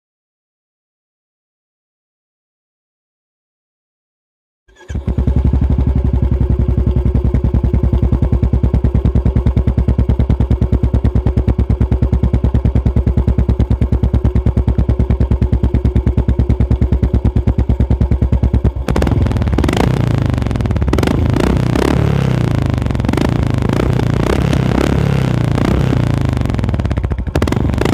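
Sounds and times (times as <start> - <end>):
motorcycle engine idling: 4.7 - 27.9.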